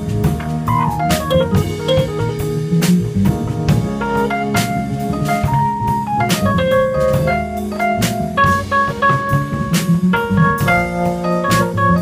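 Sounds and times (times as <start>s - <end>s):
drum kit: 0.0s - 12.0s
electric keyboard chords: 0.0s - 12.0s.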